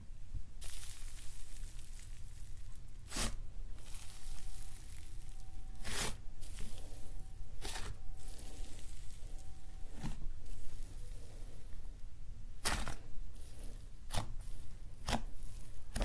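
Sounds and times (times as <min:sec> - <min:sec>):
slime crackling squelches: 0:00.6 - 0:16.0.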